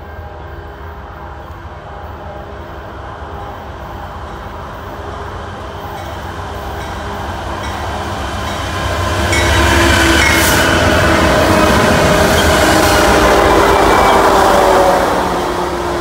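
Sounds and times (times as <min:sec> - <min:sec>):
diesel locomotives rumbling past: 0:00.0 - 0:16.0.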